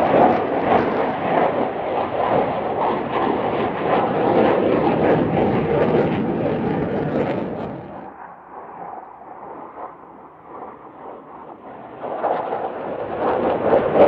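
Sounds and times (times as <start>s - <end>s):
jet flying past: 0.0s - 14.0s.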